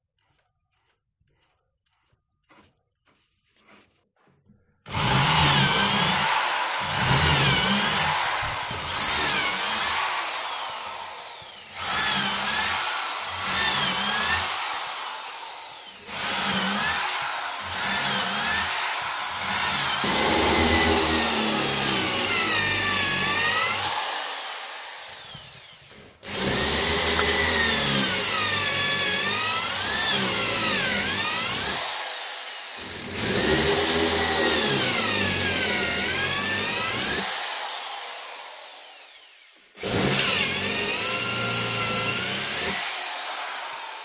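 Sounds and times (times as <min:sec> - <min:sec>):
electric drill boring into wood: 0:04.9 - 0:44.0.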